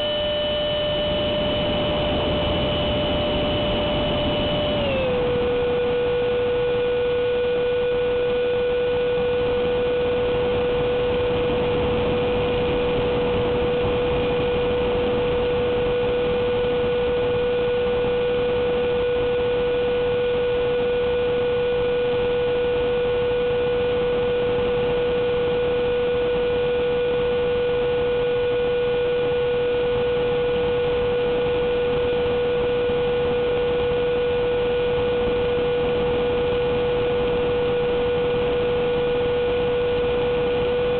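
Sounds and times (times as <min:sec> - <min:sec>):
ducted fan hum: 0:00.0 - 0:40.9.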